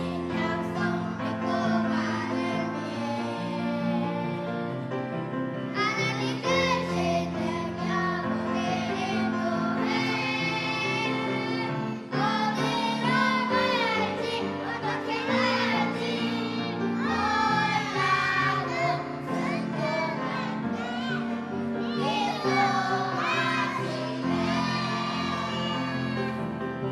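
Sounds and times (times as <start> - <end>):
children's choir singing: 0.0 - 4.8, 5.7 - 26.9.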